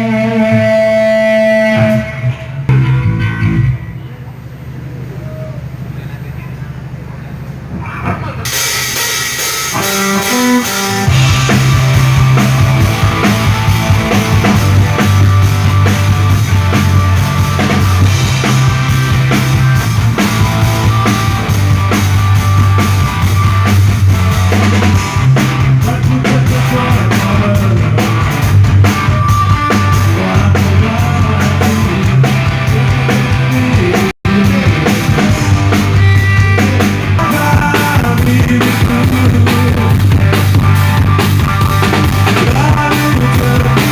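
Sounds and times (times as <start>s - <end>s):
electric guitars: 0.0s - 4.1s, 8.0s - 43.9s
heavy bass line: 0.0s - 43.9s
drum kit: 0.8s - 3.9s, 7.8s - 43.9s.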